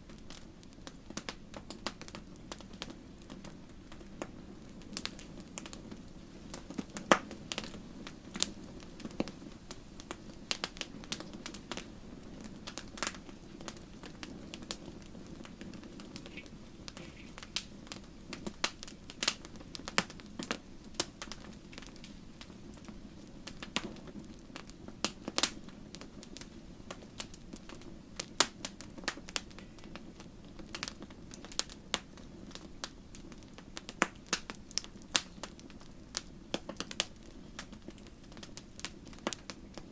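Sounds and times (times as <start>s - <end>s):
campfire crackling and popping: 0.0s - 39.9s
low background noise: 0.0s - 39.9s.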